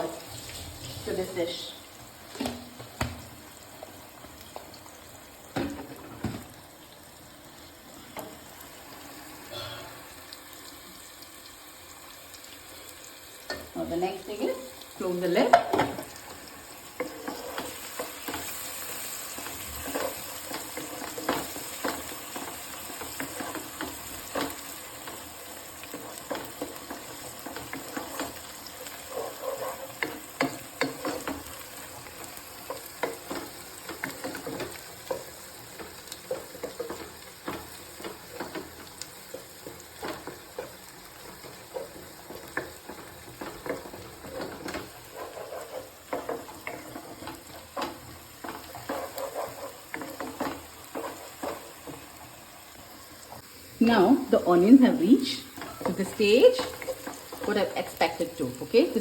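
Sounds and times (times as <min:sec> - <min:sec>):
onions sizzling in a pan: 0:00.0 - 0:59.0.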